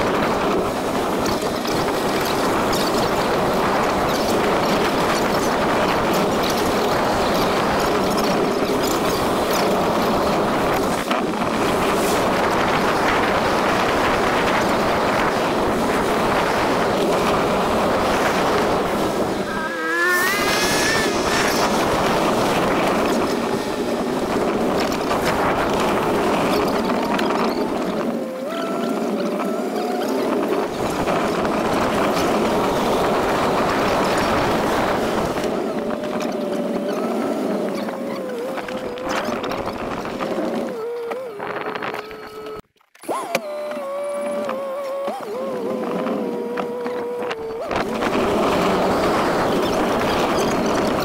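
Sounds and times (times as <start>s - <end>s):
vehicle engine and wind rush: 0.0s - 51.0s.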